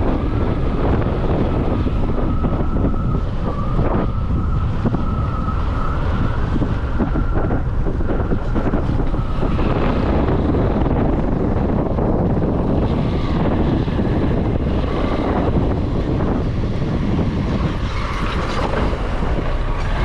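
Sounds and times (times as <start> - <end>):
motorcycle engine rumble: 0.0 - 20.0
road noise: 0.0 - 20.0.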